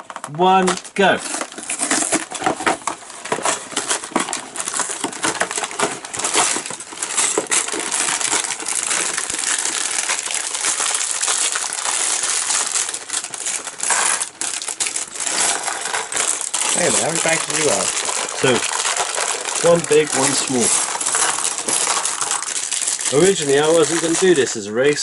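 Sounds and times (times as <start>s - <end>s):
plastic bags crinkling: 0.0s - 25.0s
plastic bricks clinking: 0.0s - 25.0s.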